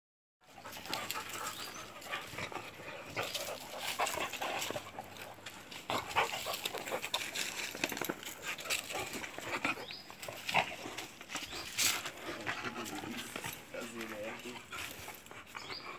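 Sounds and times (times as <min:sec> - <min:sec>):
dogs panting: 0:00.4 - 0:15.9
dogs scuffling: 0:00.6 - 0:15.7.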